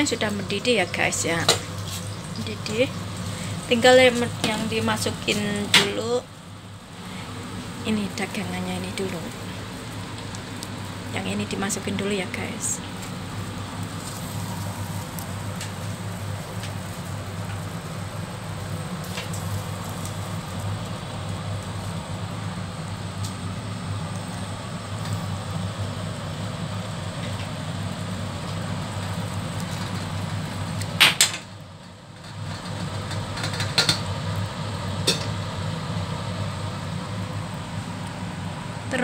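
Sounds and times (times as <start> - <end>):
low machine hum: 0.0 - 39.0
water boiling in pot: 0.0 - 39.0.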